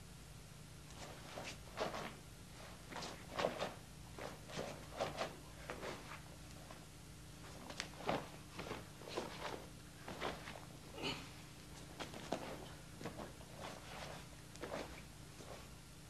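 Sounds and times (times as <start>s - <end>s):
low steady hum: 0.0s - 16.0s
footsteps and scuffs on floor: 0.9s - 6.8s, 7.4s - 10.9s, 11.6s - 15.8s.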